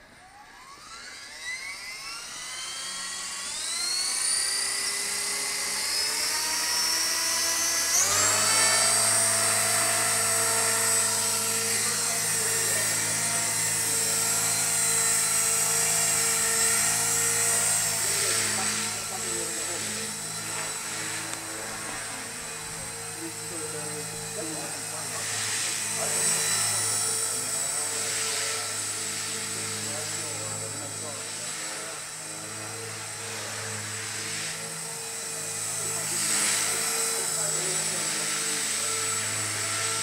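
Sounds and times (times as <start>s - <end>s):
rc helicopter motor whine: 0.0s - 40.0s.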